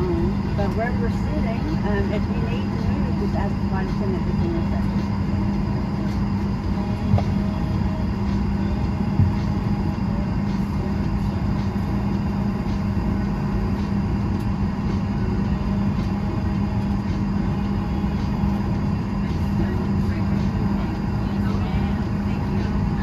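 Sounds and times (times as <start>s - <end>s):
cabin air conditioning hum: 0.0s - 23.0s.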